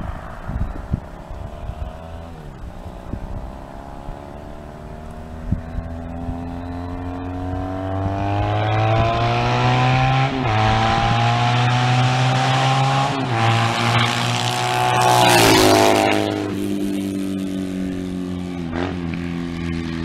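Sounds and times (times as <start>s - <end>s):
motorcycle accelerating: 0.0s - 20.0s.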